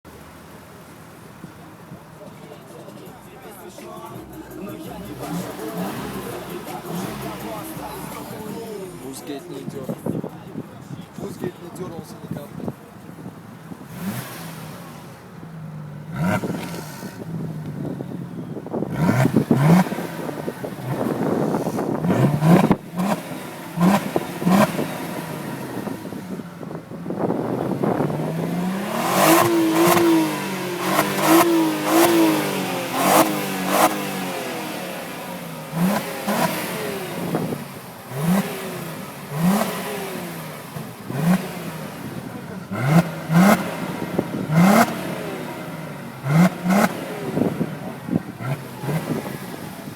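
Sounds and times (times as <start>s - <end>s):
car engine revving: 0.1s - 49.9s.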